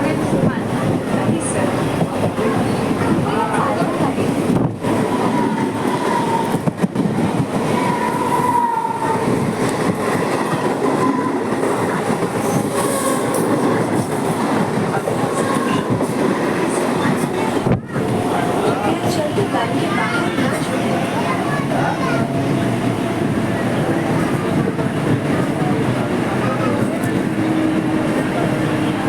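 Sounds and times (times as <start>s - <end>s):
train rumble and rattle: 0.0s - 29.0s.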